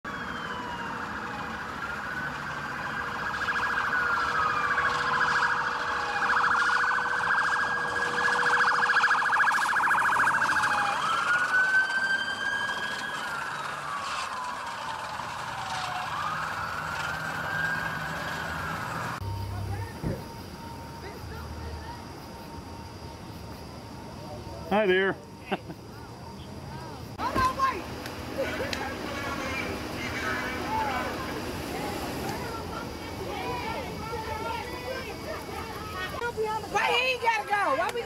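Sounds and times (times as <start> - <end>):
police sirens wailing: 0.0 - 38.0.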